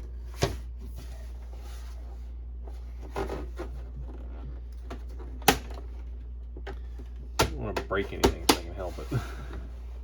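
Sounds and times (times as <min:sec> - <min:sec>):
dehumidifier humming: 0:00.0 - 0:10.0.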